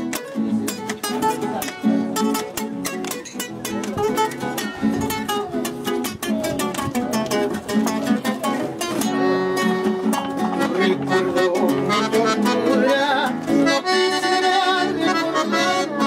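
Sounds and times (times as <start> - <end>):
accordion melody: 0.0 - 16.0
acoustic guitars strumming: 0.0 - 16.0.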